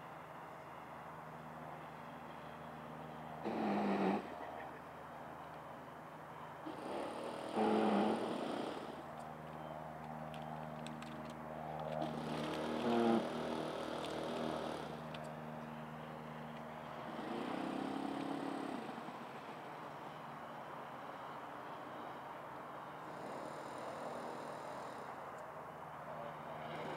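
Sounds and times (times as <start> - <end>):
model aircraft propellers buzzing: 0.0 - 26.9.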